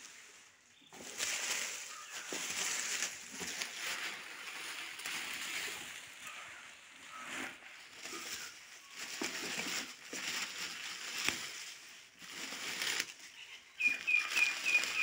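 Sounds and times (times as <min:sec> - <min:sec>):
packing fill rustling and crinkling: 0:00.0 - 0:15.0.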